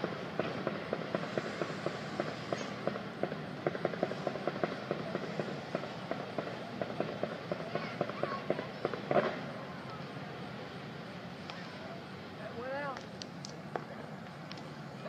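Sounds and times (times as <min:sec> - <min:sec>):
fireworks popping and crackling: 0:00.0 - 0:15.0.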